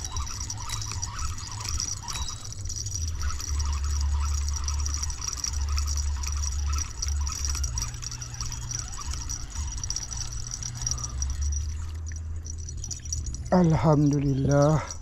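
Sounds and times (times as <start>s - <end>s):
spinning reel cranking: 0.0s - 15.0s.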